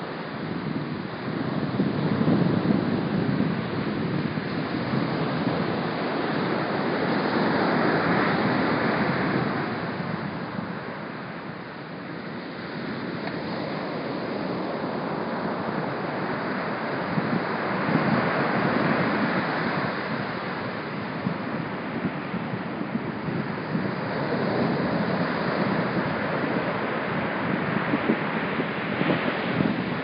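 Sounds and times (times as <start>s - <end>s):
waves washing on sandy beach: 0.0s - 30.0s
wind buffeting microphone: 0.0s - 30.0s.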